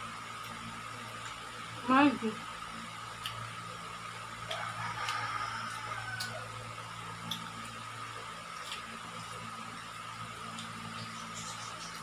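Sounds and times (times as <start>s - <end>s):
low hum with high whine: 0.0s - 12.0s.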